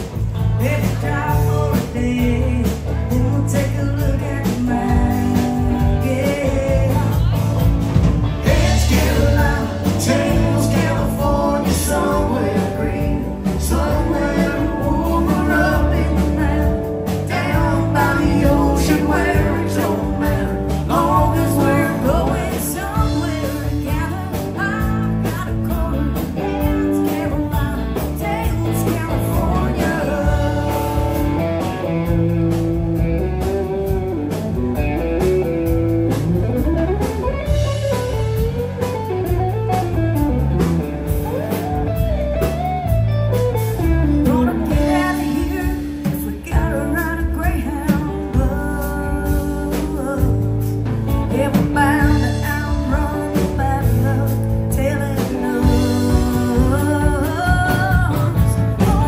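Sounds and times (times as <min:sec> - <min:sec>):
guitar: 0:00.0 - 0:59.0
heavy bass: 0:00.0 - 0:59.0
live blues band: 0:00.0 - 0:59.0
person singing: 0:00.4 - 0:32.3, 0:43.4 - 0:59.0.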